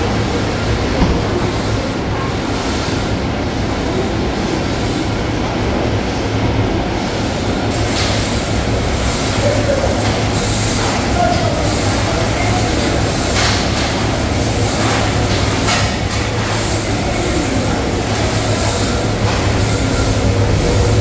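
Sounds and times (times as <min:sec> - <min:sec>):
conveyor mechanical din: 0:00.0 - 0:21.0.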